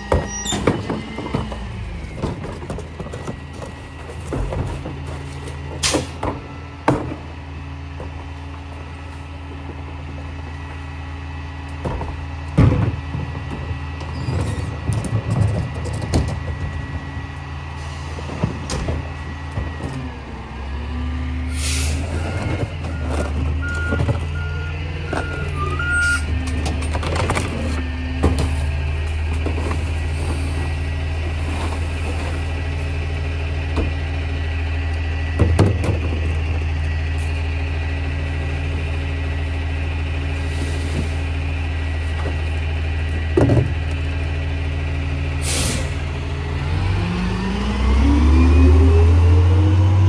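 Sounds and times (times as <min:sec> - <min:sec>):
diesel engine idling: 0:01.0 - 0:14.9, 0:15.6 - 0:50.0.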